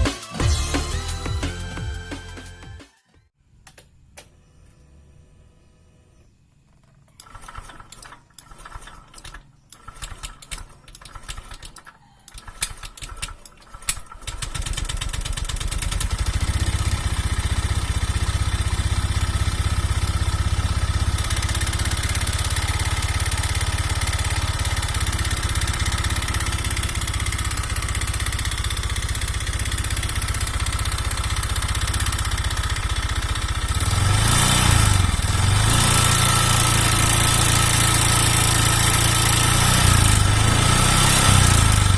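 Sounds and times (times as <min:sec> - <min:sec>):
scooter engine cranking on starter: 0:06.2 - 0:41.9
scooter engine running rough: 0:06.2 - 0:41.9.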